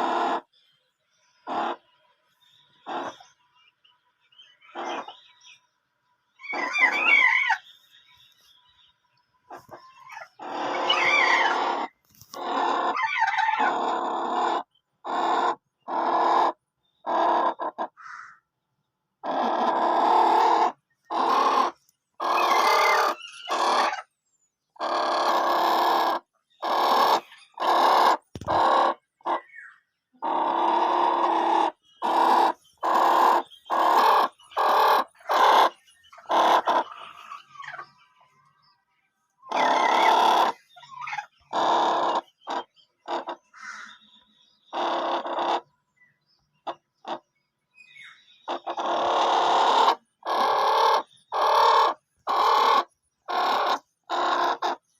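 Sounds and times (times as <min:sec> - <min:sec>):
chickens squawking and cackling: 0:00.0 - 0:00.7, 0:01.3 - 0:08.4, 0:09.2 - 0:18.5, 0:19.2 - 0:38.8, 0:39.4 - 0:54.9.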